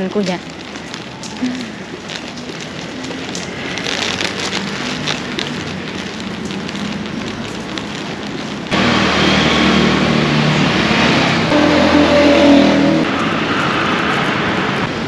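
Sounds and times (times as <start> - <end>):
rain pattering on a surface: 0.0 - 15.0.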